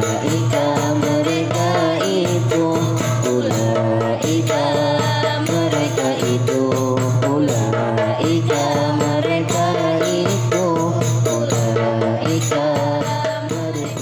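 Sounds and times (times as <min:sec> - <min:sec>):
percussion beat: 0:00.0 - 0:14.0.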